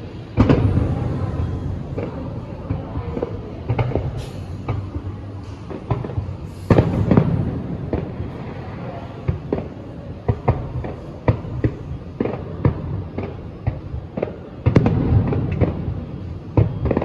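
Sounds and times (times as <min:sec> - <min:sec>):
fireworks bangs: 0:00.0 - 0:17.0
fireworks pops: 0:00.3 - 0:08.6, 0:09.2 - 0:17.0.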